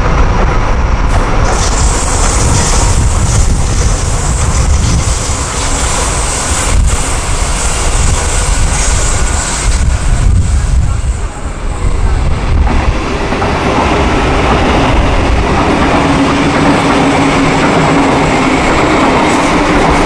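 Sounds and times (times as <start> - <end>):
electric trains passing: 0.0 - 20.0
wind buffeting microphone: 0.0 - 20.0.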